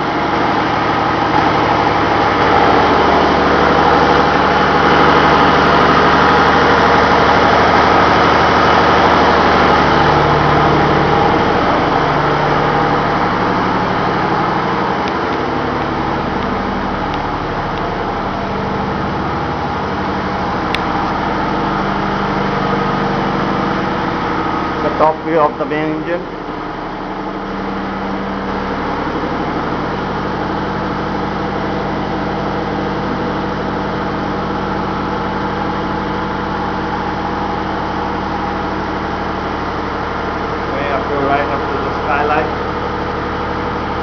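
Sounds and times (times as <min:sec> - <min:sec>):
engine room machinery droning: 0:00.0 - 0:44.0.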